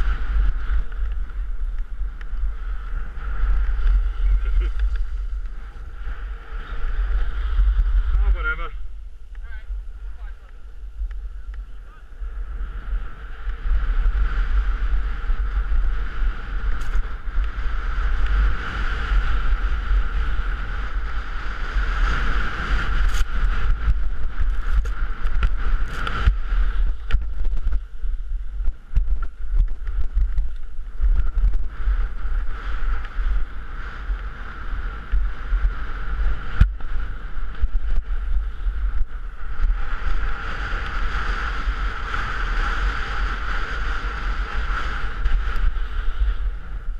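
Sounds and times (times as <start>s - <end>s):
skis scraping over snow: 0.0s - 8.7s, 12.5s - 46.9s
wind buffeting microphone: 0.0s - 46.9s.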